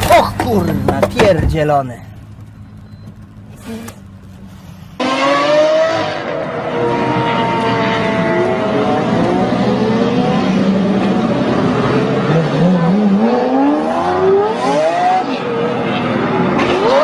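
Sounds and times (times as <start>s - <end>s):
car engine revving: 2.0s - 17.0s.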